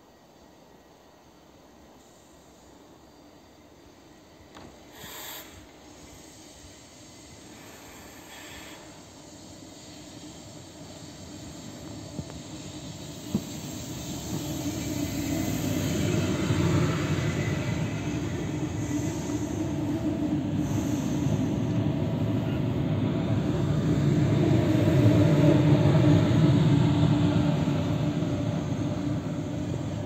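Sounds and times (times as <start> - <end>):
train wheels rumbling: 4.4 - 30.0.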